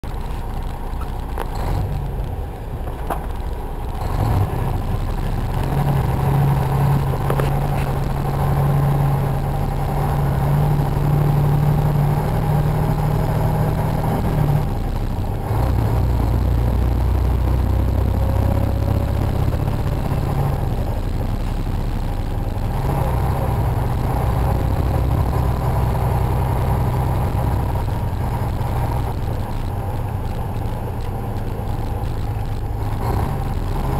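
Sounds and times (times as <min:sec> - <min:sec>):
road noise inside cab: 0:00.0 - 0:33.9
truck engine drone: 0:00.0 - 0:33.9.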